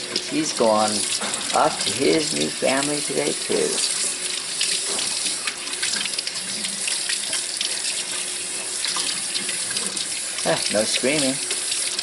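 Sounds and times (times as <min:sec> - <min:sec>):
tap water running and splashing: 0:00.0 - 0:12.0.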